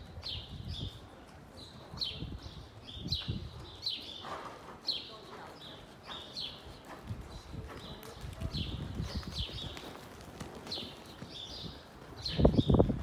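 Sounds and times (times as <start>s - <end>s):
soft hoofbeats on sand: 0.0s - 13.0s.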